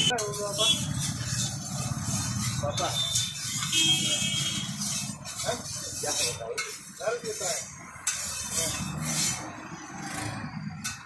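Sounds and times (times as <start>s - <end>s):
oil sizzling on griddle: 0.0s - 9.4s
metal spatula scraping griddle: 0.0s - 11.0s.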